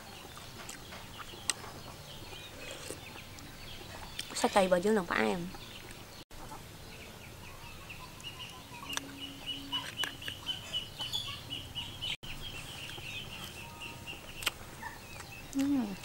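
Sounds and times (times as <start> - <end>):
chickens chirping: 0.0 - 16.0.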